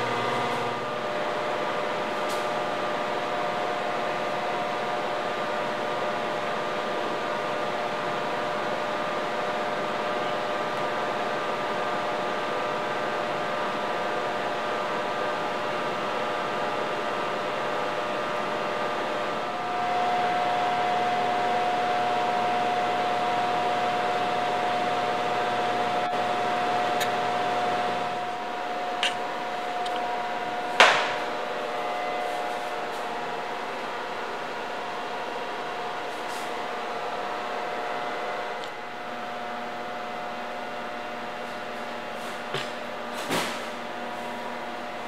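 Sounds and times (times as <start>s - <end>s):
motor hum with whine: 0.0s - 45.0s.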